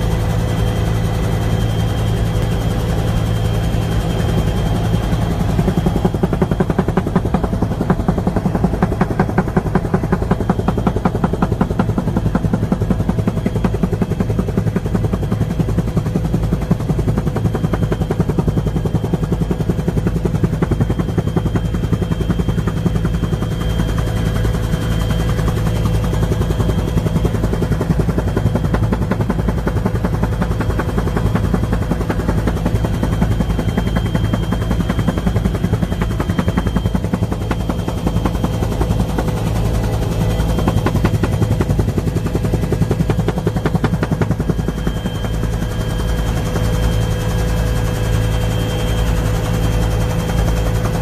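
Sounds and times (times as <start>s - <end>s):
helicopter engine drone: 0.0s - 51.0s
rotor blades beating: 0.0s - 51.0s.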